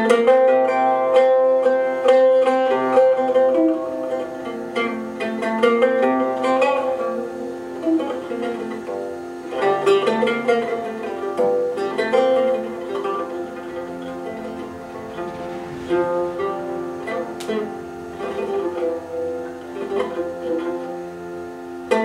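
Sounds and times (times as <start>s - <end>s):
oud plucking melody: 0.0s - 22.0s
string ensemble held notes: 0.0s - 22.0s.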